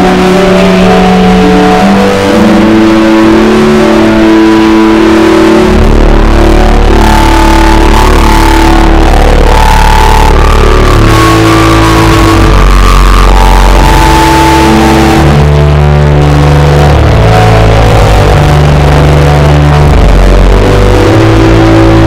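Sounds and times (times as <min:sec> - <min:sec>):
organ playing slow chords: 0:00.0 - 0:22.0.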